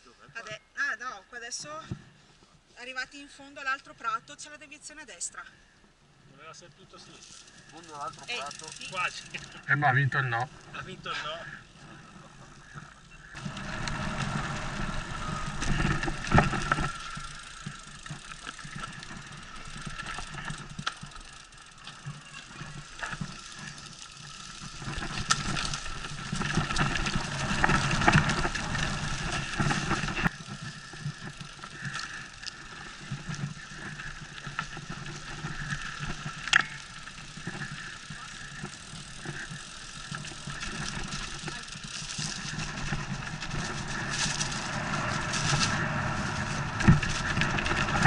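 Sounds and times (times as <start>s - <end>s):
bike rolling with mechanical buzz: 6.8s - 48.0s.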